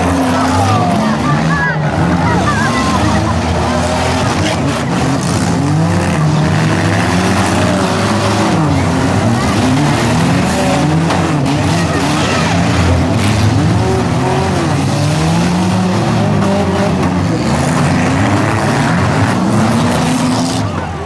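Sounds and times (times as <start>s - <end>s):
car engines revving: 0.0s - 21.0s
cars ramming: 0.0s - 21.0s.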